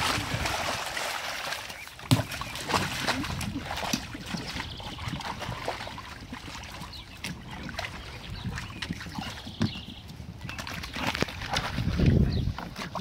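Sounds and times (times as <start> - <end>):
water splashing in wading pool: 0.0 - 13.0.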